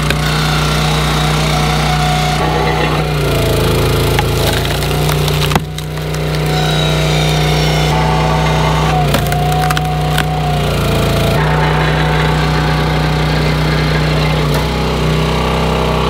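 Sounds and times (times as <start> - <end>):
wood splitting and cracking: 0.0 - 11.4, 14.3 - 16.0
log splitter engine running: 0.0 - 16.0.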